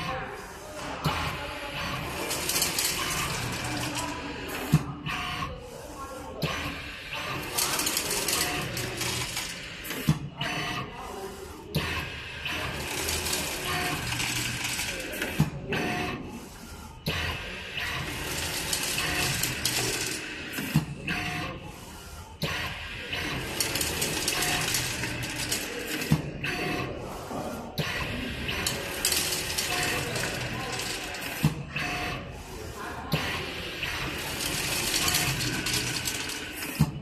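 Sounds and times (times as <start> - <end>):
machine whirring and hiss: 0.0 - 37.0.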